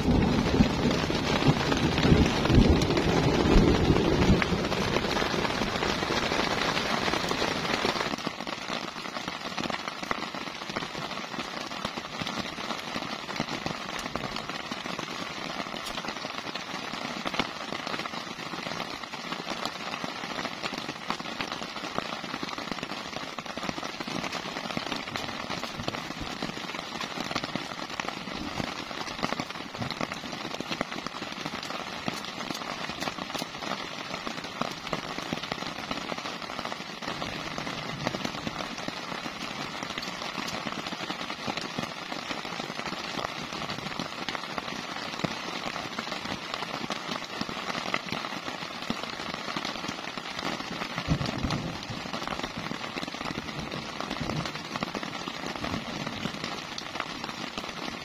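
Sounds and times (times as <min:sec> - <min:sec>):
heavy rain on a shelter: 0:00.0 - 0:58.0.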